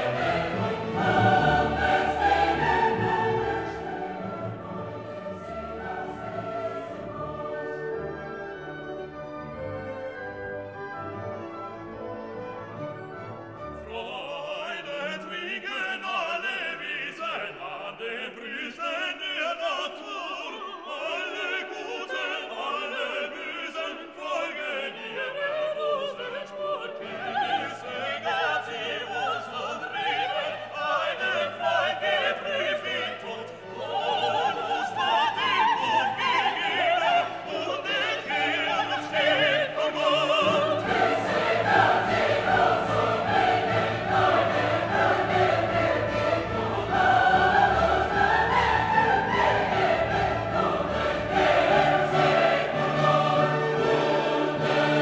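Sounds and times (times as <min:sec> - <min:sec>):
operatic choral singing: 0:00.0 - 0:12.8, 0:13.5 - 0:55.0
orchestral music: 0:00.0 - 0:55.0.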